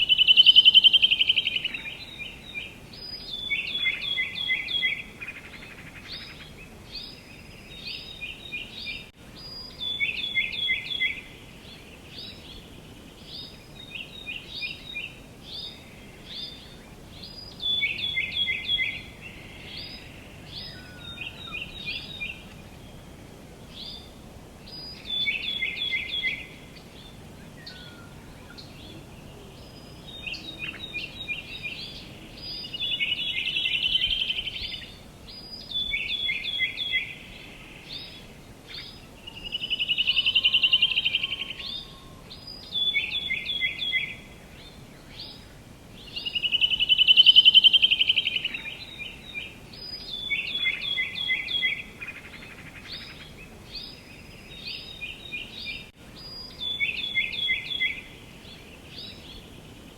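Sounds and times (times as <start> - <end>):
faint outdoor hiss: 0.0 - 59.9
songbirds singing: 0.0 - 59.9.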